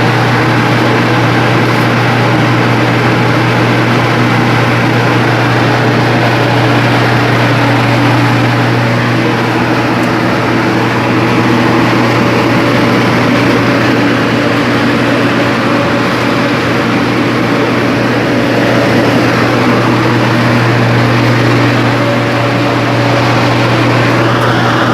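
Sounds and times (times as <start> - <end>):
dryer machine droning: 0.0 - 24.9.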